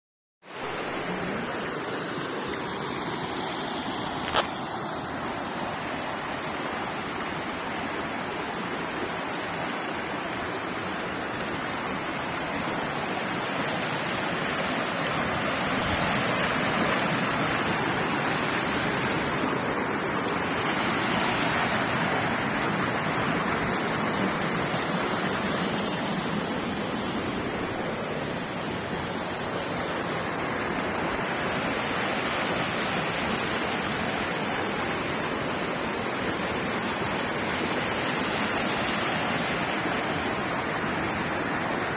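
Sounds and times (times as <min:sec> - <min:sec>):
river water rushing over rock: 0:00.5 - 0:41.9.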